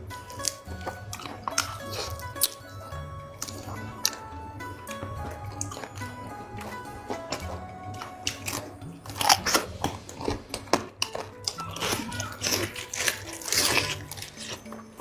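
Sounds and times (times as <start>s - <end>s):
background music: 0.0s - 15.0s
crunchy bites and chewing: 0.3s - 15.0s.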